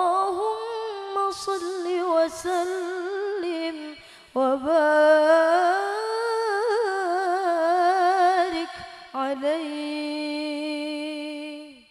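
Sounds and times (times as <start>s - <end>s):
woman chanting into a microphone: 0.0s - 11.9s.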